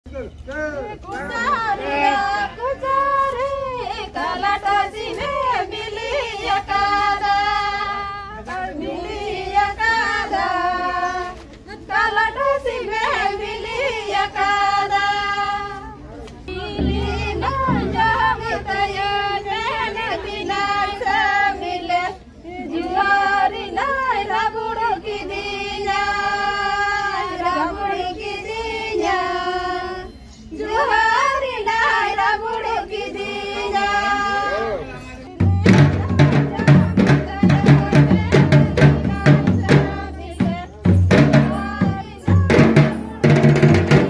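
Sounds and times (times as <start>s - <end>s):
women singing in high voices: 0.8s - 44.0s.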